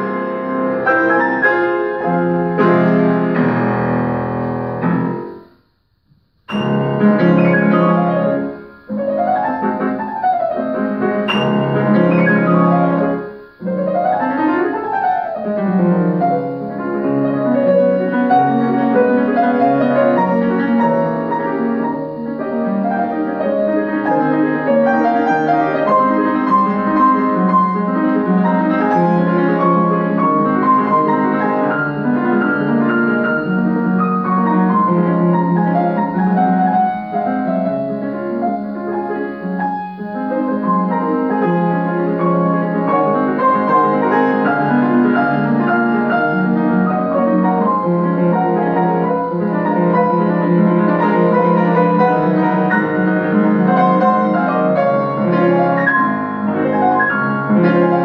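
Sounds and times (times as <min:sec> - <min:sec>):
grand piano playing: 0:00.0 - 0:05.6, 0:06.4 - 0:58.0.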